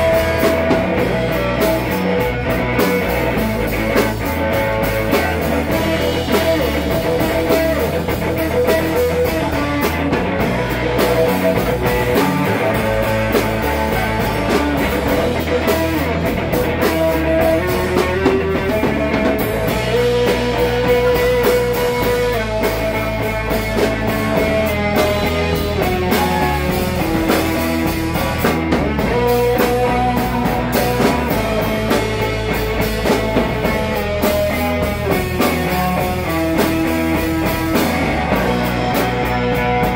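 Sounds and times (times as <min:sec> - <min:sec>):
bass guitar: 0:00.0 - 0:39.9
drum kit: 0:00.0 - 0:39.9
electric guitar long notes: 0:00.0 - 0:39.9.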